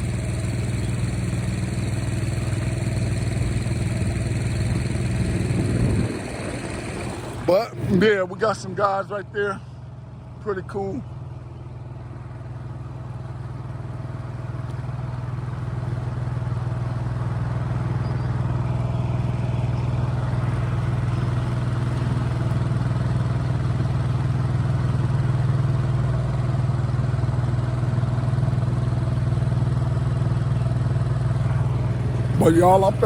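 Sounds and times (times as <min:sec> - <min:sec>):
outboard boat motor humming: 0:00.0 - 0:33.0.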